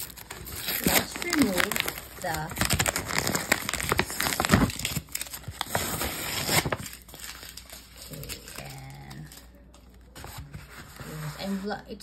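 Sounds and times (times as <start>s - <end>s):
paper envelope crinkling: 0.0s - 11.6s.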